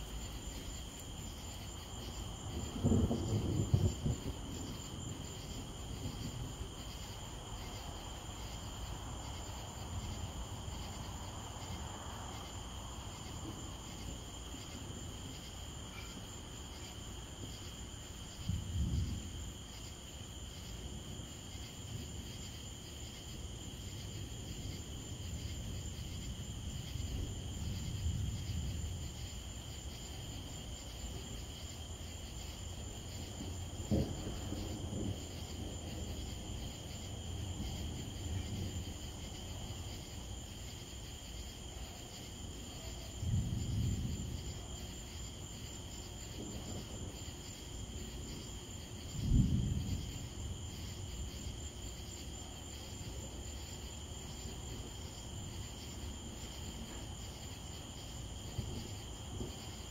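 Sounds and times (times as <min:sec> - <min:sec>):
crickets and insects trilling: 0:00.0 - 0:59.9
distant thunder rumbling: 0:00.0 - 0:59.9.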